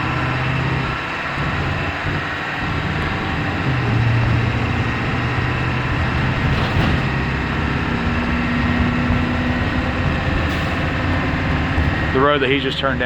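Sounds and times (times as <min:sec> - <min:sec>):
bus engine hum: 0:00.0 - 0:13.0
road noise: 0:00.0 - 0:13.0.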